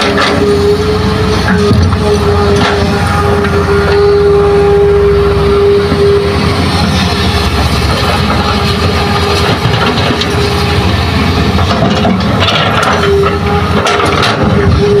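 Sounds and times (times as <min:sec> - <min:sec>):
excavator running: 0:00.0 - 0:15.0
hydraulic whine: 0:00.0 - 0:15.0.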